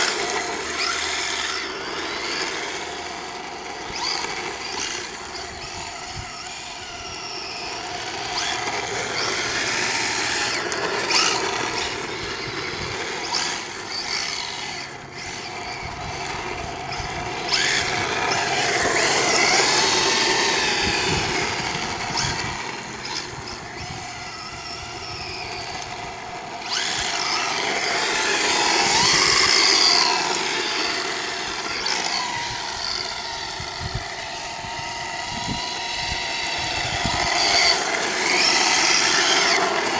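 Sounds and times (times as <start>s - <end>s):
electric motor whining: 0.0s - 39.9s
tyres sliding on asphalt: 0.0s - 39.9s.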